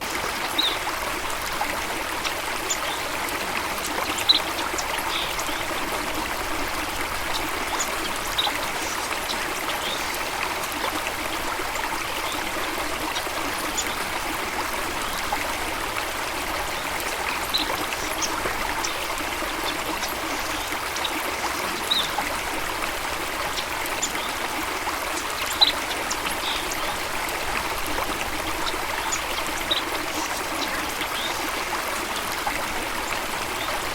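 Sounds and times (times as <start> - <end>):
water flowing: 0.0 - 33.9.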